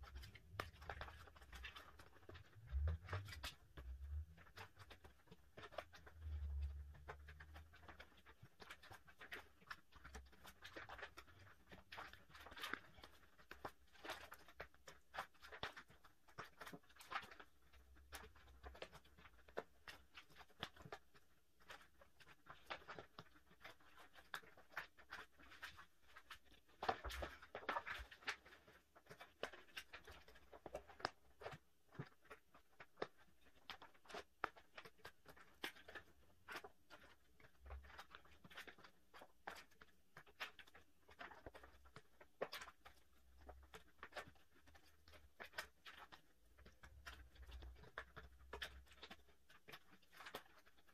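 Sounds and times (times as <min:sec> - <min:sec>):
plastic sleeves rustling and crackling: 0:00.0 - 0:50.9
small clicks and taps: 0:00.0 - 0:50.9.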